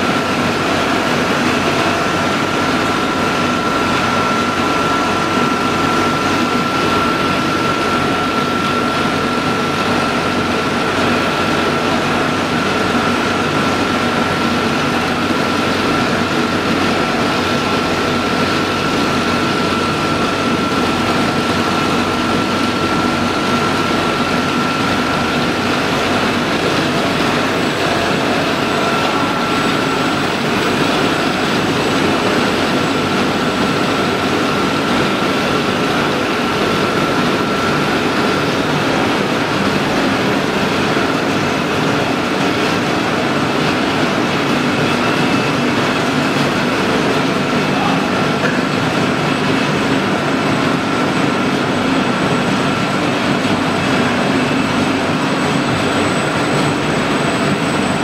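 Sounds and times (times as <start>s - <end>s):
high whine: 0.0s - 58.0s
industrial machinery drone: 0.0s - 58.0s.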